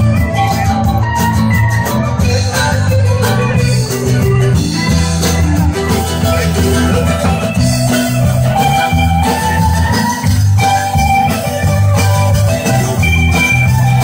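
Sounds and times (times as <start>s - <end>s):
drum kit steady beat: 0.0s - 14.0s
electric guitar: 0.0s - 14.0s
strummed acoustic guitar: 0.0s - 14.0s.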